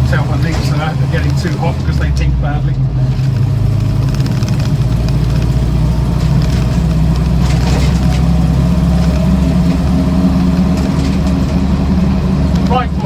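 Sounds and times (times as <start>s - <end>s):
car engine running while driving: 0.0s - 13.0s.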